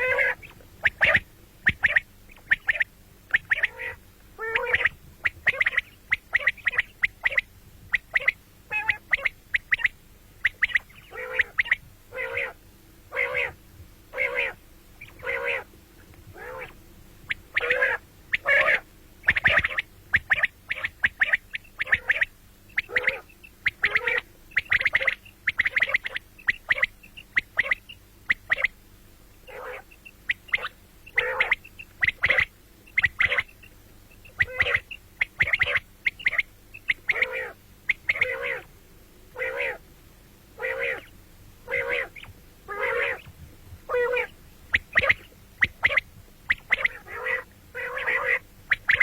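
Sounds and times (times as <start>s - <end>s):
quail calling: 0.0s - 15.7s, 16.3s - 28.8s, 29.4s - 39.9s, 40.6s - 49.0s.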